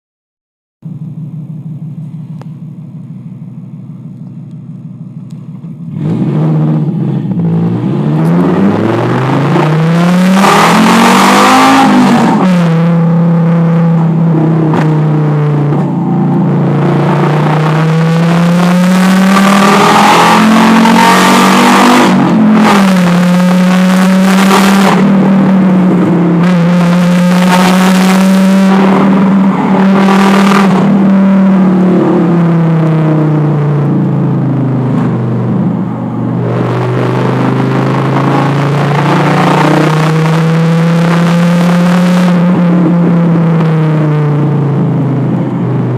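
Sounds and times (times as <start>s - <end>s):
car engine idling and revving: 0.8s - 45.9s.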